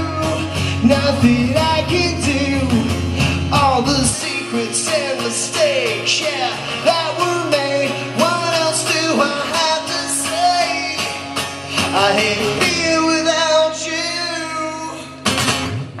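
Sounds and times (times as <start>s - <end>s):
man singing long notes: 0.0s - 15.2s
strummed guitar: 0.0s - 16.0s.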